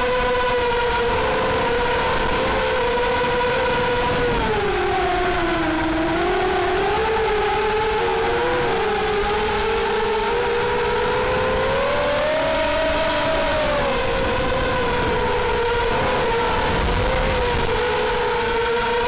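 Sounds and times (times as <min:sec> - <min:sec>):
quadcopter propellers whining: 0:00.0 - 0:19.0.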